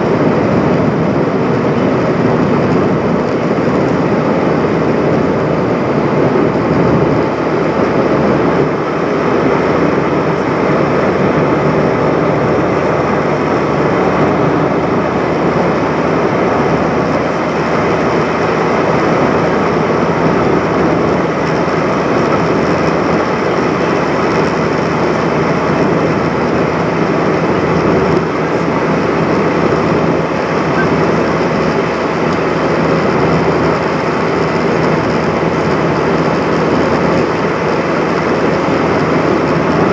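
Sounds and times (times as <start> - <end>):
aircraft cabin engine noise: 0.0 - 39.9.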